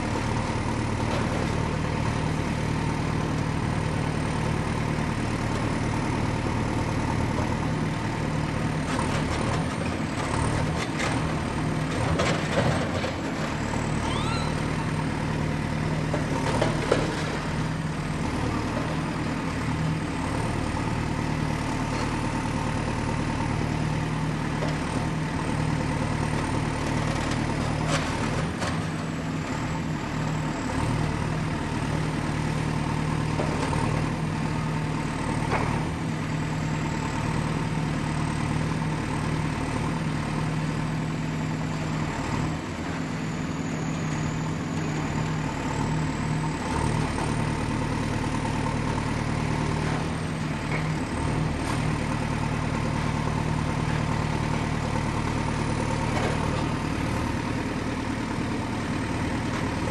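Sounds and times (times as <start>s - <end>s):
diesel excavator engine running: 0.0s - 59.9s.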